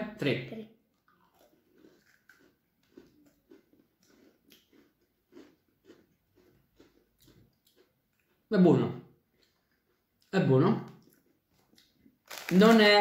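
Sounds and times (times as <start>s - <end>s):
chewing cookies: 0.9s - 8.5s, 9.2s - 13.0s.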